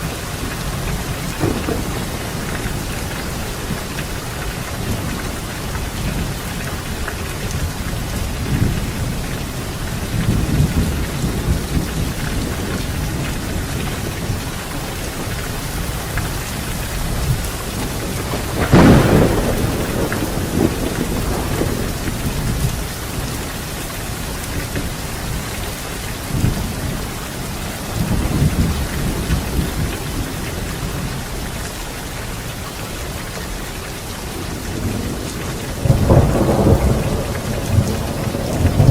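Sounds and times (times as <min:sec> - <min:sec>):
thunder rumbling: 0:00.0 - 0:31.4, 0:34.3 - 0:38.9
steady rain: 0:00.0 - 0:38.9.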